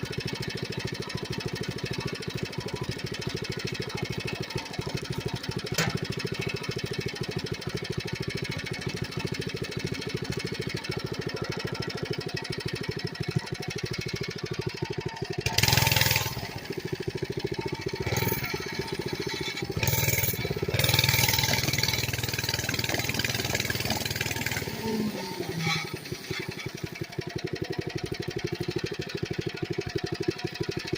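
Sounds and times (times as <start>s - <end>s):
small engine putter and revving: 0.0s - 30.9s.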